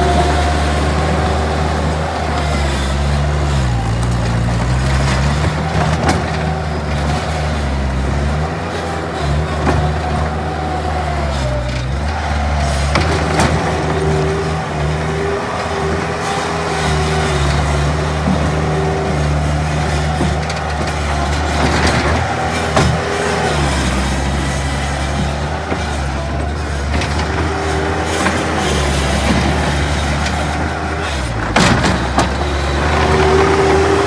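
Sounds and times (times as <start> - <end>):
diesel loader engine running: 0.0 - 34.0.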